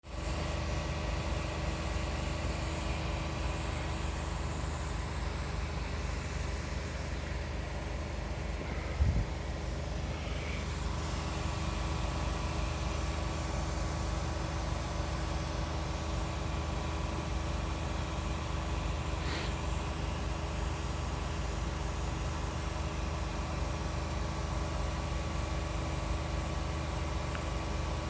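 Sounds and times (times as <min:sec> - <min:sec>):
snowmaking machine humming: 0:00.0 - 0:28.0.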